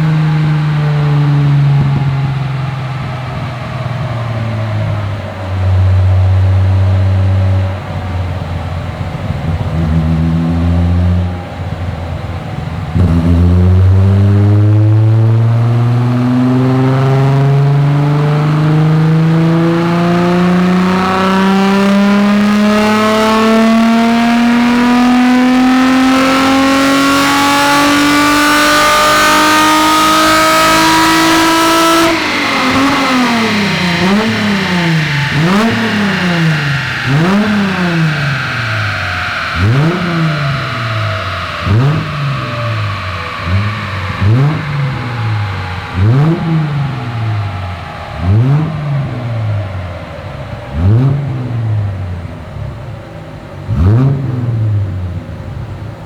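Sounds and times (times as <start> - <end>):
car engine revving on dyno: 0.0 - 56.0.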